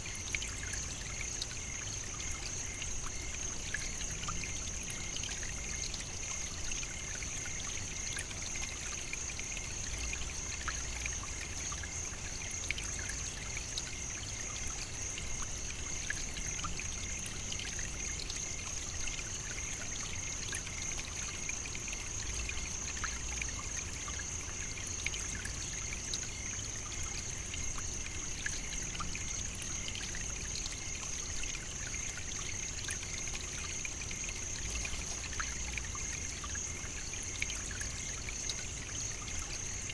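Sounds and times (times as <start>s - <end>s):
trickling running water: 0.0s - 39.9s.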